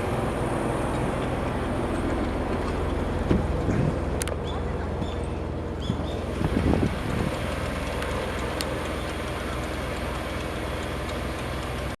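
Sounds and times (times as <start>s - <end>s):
marine diesel engine drone: 0.0s - 12.0s.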